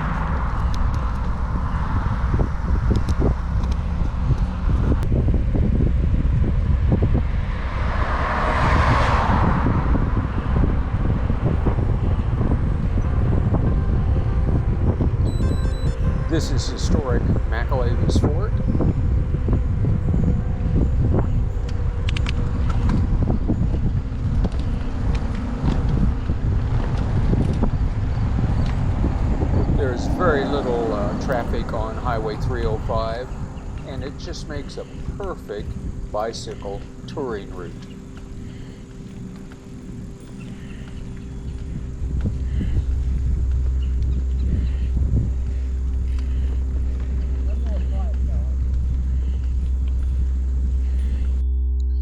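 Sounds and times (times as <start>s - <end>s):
steady low hum: 0.0s - 52.0s
wind buffeting microphone: 0.0s - 52.0s.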